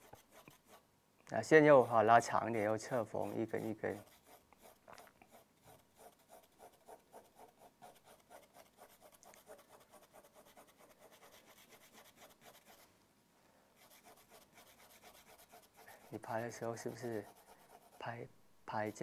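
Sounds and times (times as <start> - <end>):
pencil scratching on paper: 0.0 - 0.8, 1.4 - 12.9, 13.8 - 18.2, 18.8 - 19.0.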